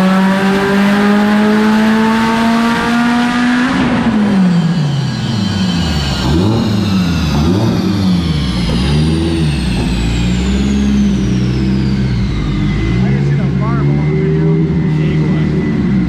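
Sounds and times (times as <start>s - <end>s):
turbocharged engine revving: 0.0s - 16.0s.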